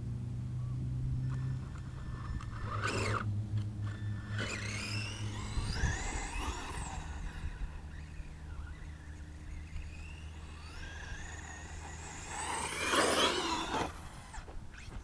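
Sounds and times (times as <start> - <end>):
electric motor whining: 1.2 - 15.0.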